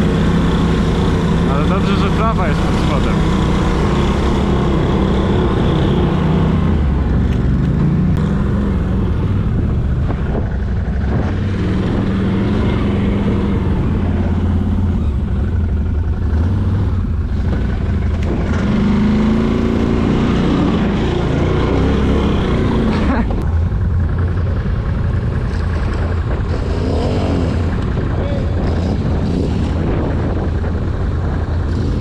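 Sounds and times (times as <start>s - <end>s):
quad engine revving: 0.0s - 32.0s.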